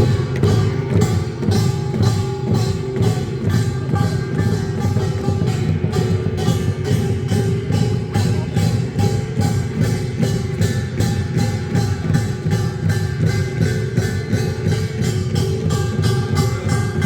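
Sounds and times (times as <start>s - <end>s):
drums and struck percussion: 0.0s - 17.0s.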